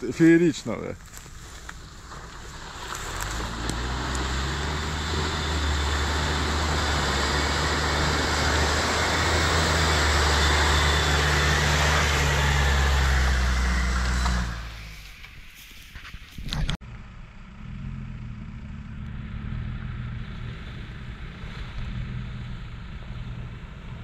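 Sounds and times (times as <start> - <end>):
car engine droning: 0.5 - 24.0.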